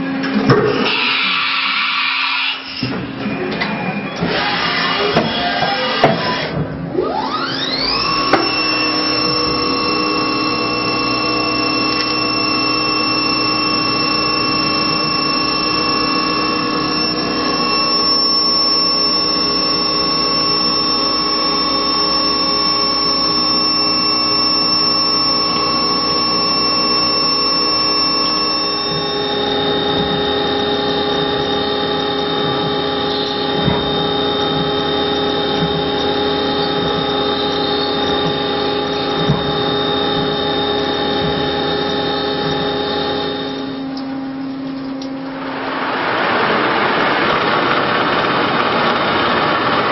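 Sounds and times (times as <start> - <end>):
milling machine spindle whine: 0.0 - 49.9.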